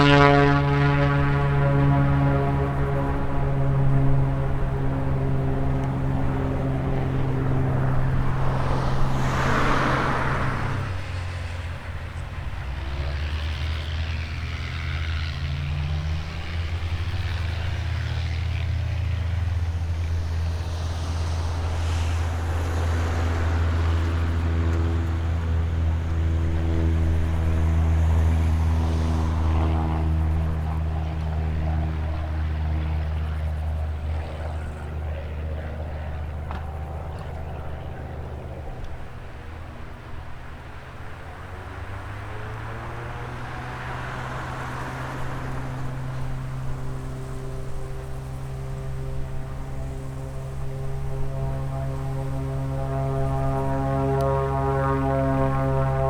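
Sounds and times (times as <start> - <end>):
light aircraft passing by: 0.0 - 56.0
propeller engine drone: 0.0 - 56.0.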